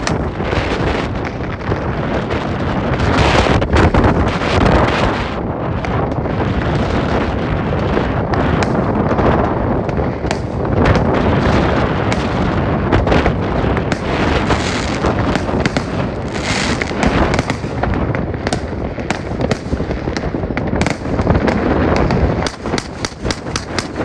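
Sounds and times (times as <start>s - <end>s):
constant rumble: 0.0s - 24.0s
firecrackers banging and crackling: 0.0s - 24.0s.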